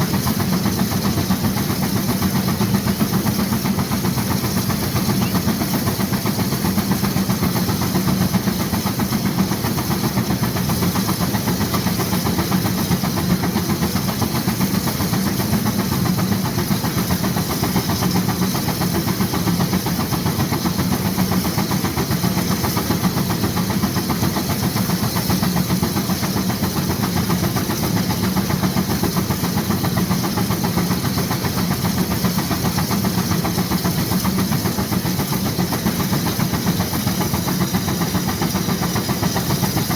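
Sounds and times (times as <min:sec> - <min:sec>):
steam engine exhaust beating: 0:00.0 - 0:39.9
steam hissing: 0:00.0 - 0:39.9.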